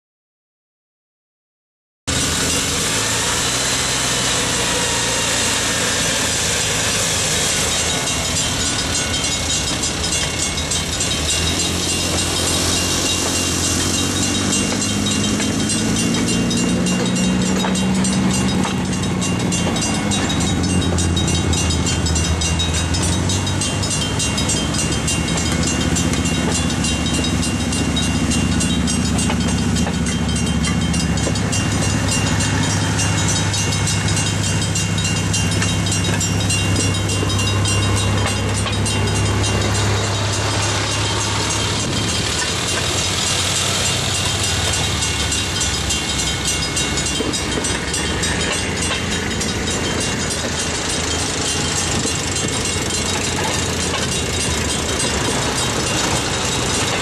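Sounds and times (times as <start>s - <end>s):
rapid even bell ringing: 2.1s - 57.0s
small rail cars engine drone: 2.1s - 57.0s.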